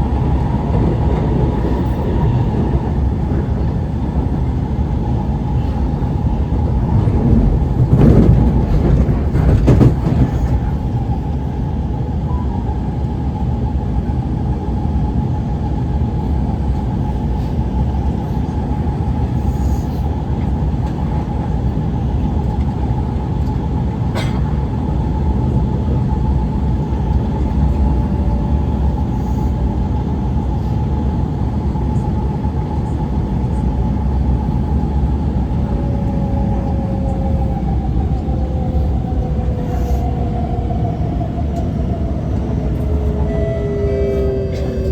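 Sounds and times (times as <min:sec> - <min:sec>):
metro train rumble and whine: 0:00.0 - 0:44.9
train rattles: 0:00.0 - 0:44.9.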